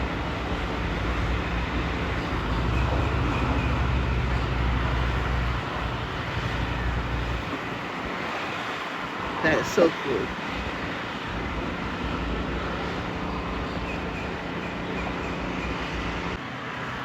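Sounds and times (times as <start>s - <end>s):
boat engine low rumble: 0.0s - 16.4s.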